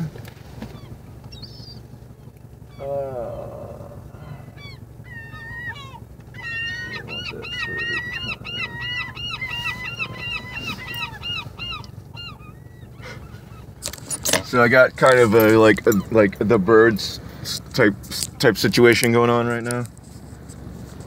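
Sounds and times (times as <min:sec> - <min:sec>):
seagulls calling: 0:00.0 - 0:19.7
low steady hum: 0:00.0 - 0:21.0.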